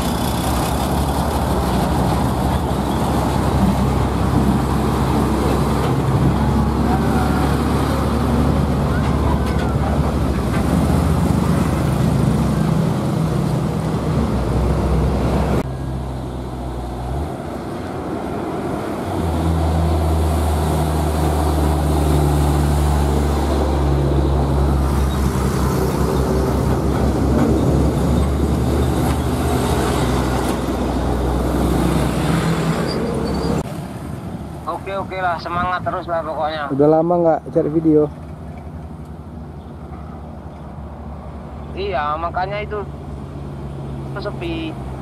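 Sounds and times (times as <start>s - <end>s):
diesel truck engines droning: 0.0s - 45.0s
tyre and traffic noise: 0.0s - 45.0s.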